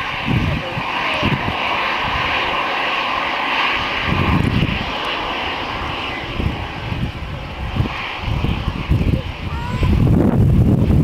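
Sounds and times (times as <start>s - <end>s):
jet engines whining: 0.0s - 11.0s
low rumbles: 0.0s - 11.0s.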